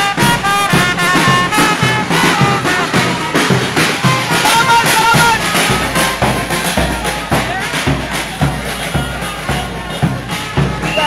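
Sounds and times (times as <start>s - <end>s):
marching drum beat: 0.0s - 11.0s
trumpet playing melodic phrases: 0.0s - 11.0s.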